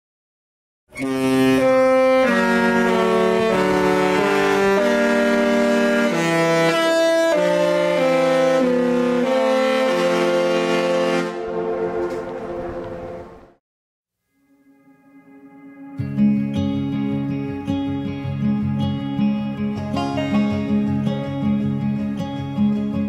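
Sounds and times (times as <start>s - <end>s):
slow reedy chord melody: 1.0s - 13.5s, 14.2s - 22.9s.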